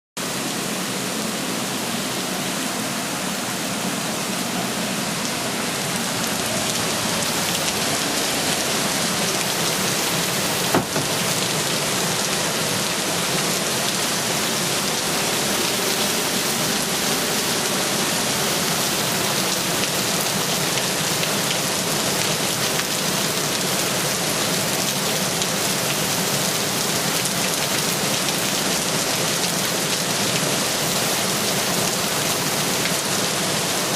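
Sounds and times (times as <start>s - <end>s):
heavy rain hissing: 0.2s - 33.9s.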